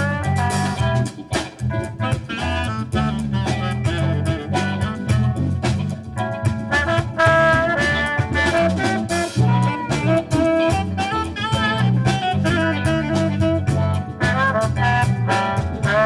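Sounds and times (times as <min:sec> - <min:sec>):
bass: 0:00.0 - 0:16.0
drum kit: 0:00.0 - 0:16.0
brass section holding notes: 0:01.8 - 0:16.0.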